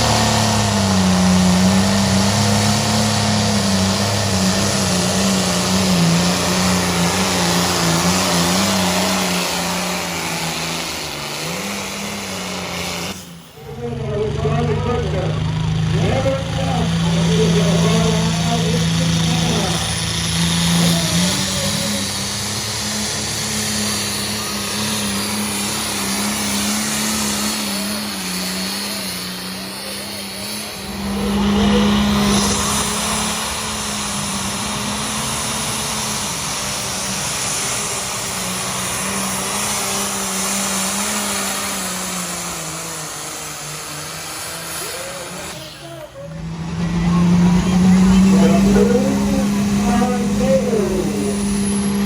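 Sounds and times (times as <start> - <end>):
engine droning under load: 0.0 - 52.0.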